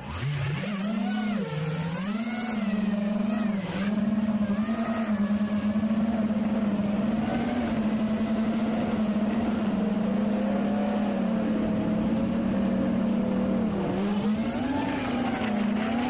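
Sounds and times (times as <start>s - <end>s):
drone motors humming: 0.0s - 16.0s.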